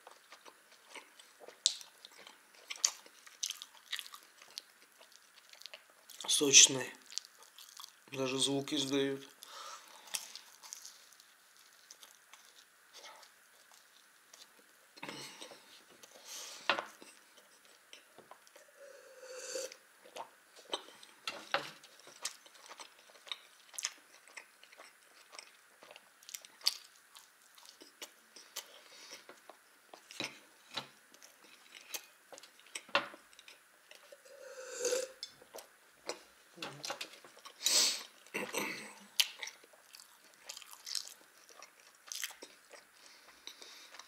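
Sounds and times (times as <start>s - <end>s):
person chewing buns: 0.0s - 6.4s, 7.0s - 8.2s, 9.3s - 44.0s.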